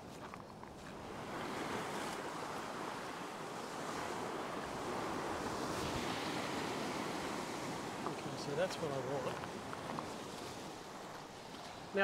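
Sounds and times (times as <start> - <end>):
surf washing against rocks: 0.9 - 12.0.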